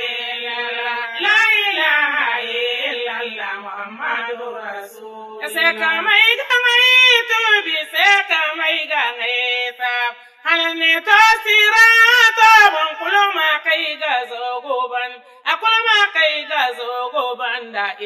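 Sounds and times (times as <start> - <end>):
high voice singing chant: 0.0 - 18.0.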